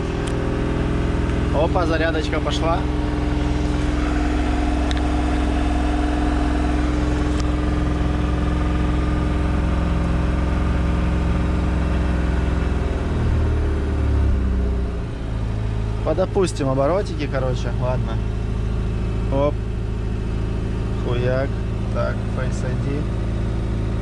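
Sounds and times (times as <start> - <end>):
old car engine idling: 0.0 - 24.0.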